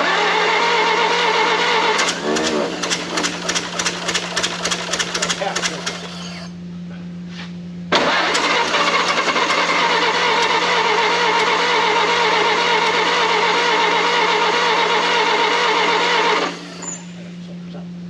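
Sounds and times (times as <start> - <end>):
car engine running: 0.8 - 6.5, 8.0 - 17.8.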